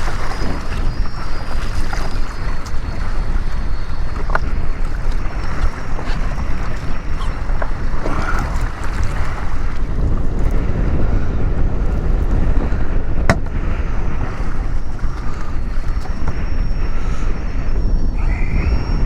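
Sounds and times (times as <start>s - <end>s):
choppy sea water: 0.0s - 19.0s
wind buffeting microphone: 0.0s - 19.0s.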